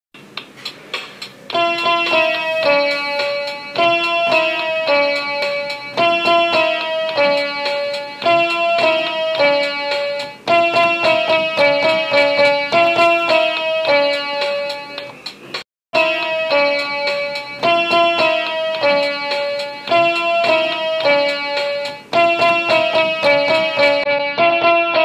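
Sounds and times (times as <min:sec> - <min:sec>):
bright plinking melody: 0:01.5 - 0:15.1, 0:16.0 - 0:24.4.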